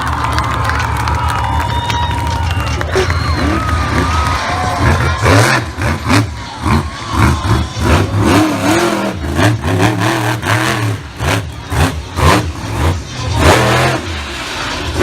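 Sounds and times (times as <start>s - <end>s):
truck engine revving: 2.1s - 15.0s.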